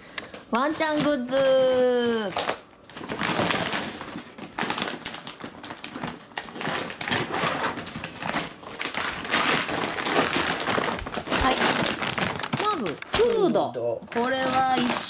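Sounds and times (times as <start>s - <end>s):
plastic bag rustling: 0.3s - 15.0s.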